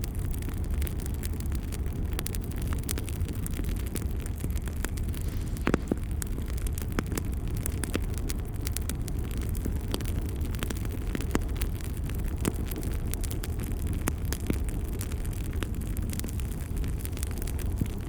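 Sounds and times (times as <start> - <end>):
low rumble of flame: 0.0 - 18.0
wood fire crackling and popping: 0.0 - 18.0.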